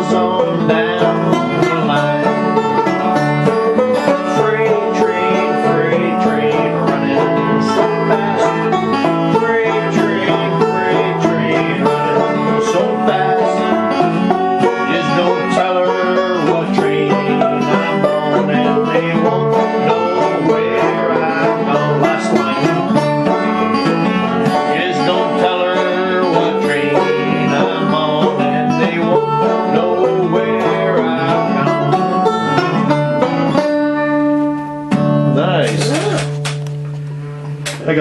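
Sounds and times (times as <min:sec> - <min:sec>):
fingerpicked folk tune on strings: 0:00.0 - 0:38.0.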